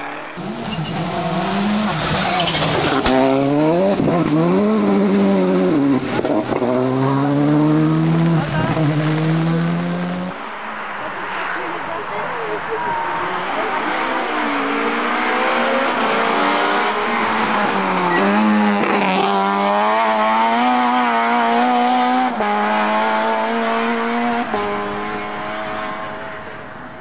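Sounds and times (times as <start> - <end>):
rally car engine at full throttle: 0.0 - 27.0.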